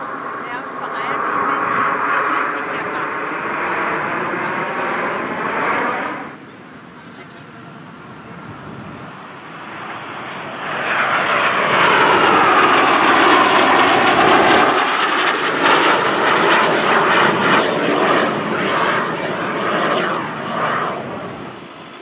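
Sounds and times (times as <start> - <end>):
jet flying past overhead: 0.0 - 22.0.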